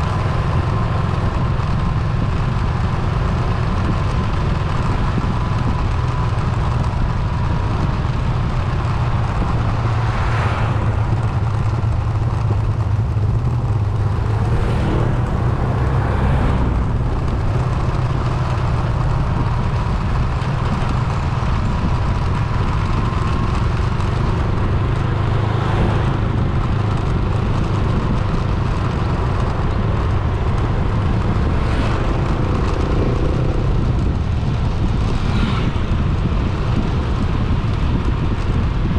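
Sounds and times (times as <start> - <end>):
car engine and road noise: 0.0 - 38.9
passing traffic: 0.0 - 38.9.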